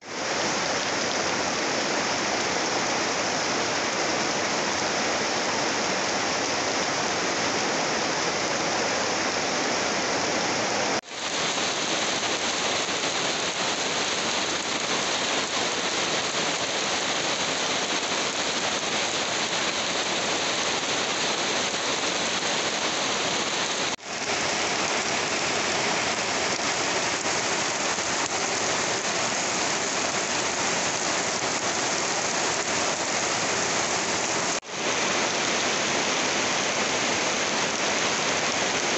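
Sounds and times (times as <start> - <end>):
heavy rain on a tin roof: 0.0 - 38.9
water running off eaves: 0.0 - 38.9.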